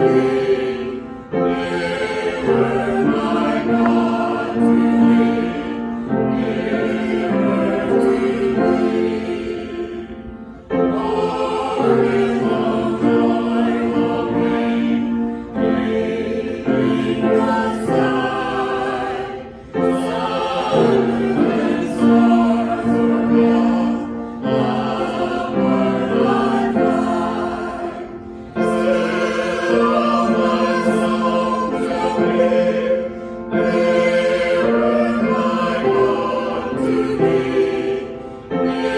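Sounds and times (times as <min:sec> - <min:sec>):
choir singing sacred music: 0:00.0 - 0:38.9.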